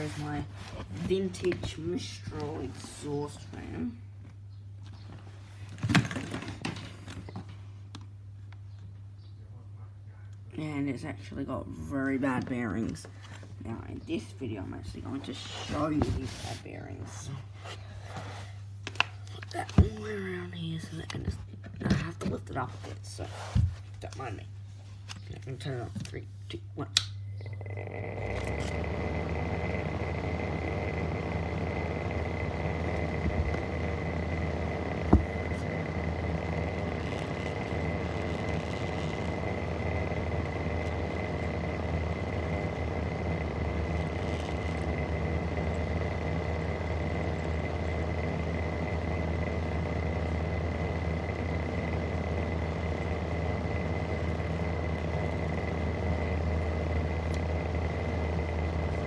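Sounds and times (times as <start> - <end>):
exhaust fan humming and whining: 0.0 - 59.0.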